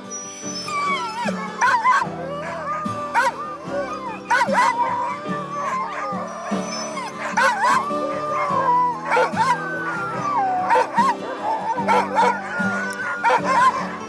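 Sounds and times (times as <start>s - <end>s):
background music with held chords: 0.0s - 14.0s
sled dogs barking and howling: 0.0s - 14.0s.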